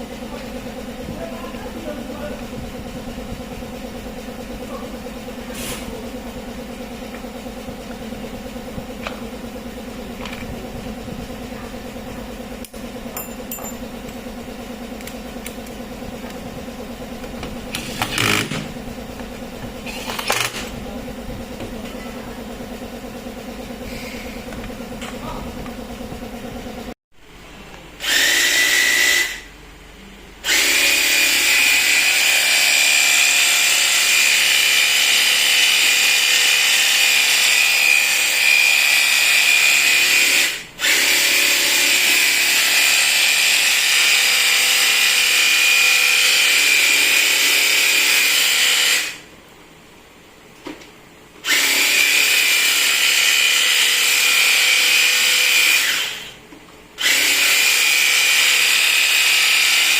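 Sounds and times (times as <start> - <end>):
hedge trimmer whining: 0.0 - 27.0, 28.0 - 29.5, 30.4 - 49.3, 51.4 - 56.4, 57.0 - 59.9.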